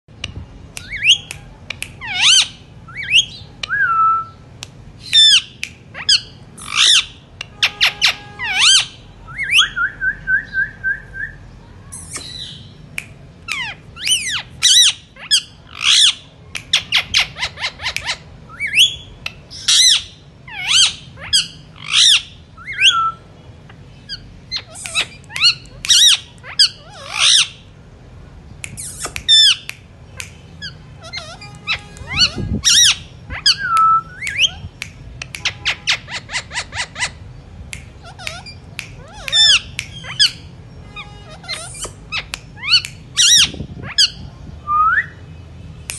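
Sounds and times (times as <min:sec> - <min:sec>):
parakeets squawking: 0:02.0 - 0:04.4, 0:05.0 - 0:09.8, 0:12.0 - 0:27.8, 0:28.7 - 0:44.3.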